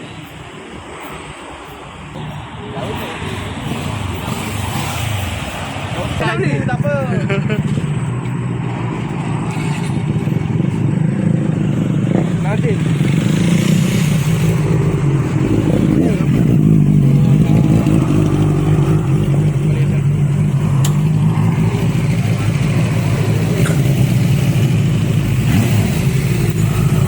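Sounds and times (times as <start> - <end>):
motorcycle engine running: 2.2 - 27.0.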